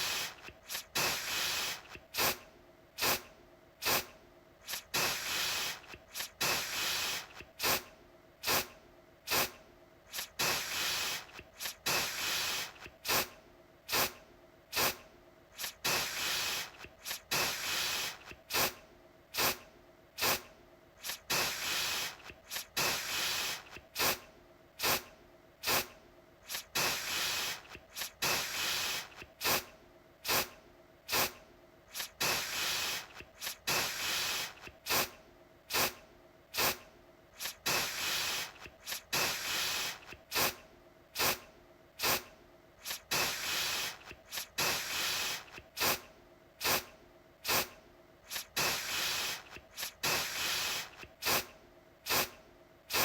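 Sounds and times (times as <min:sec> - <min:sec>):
aerosol can spraying: 0:00.0 - 0:02.4, 0:03.0 - 0:08.7, 0:09.3 - 0:15.0, 0:15.6 - 0:19.6, 0:20.2 - 0:24.2, 0:24.8 - 0:36.8, 0:37.4 - 0:40.6, 0:41.2 - 0:41.4, 0:42.0 - 0:42.2, 0:42.8 - 0:46.0, 0:46.6 - 0:53.0.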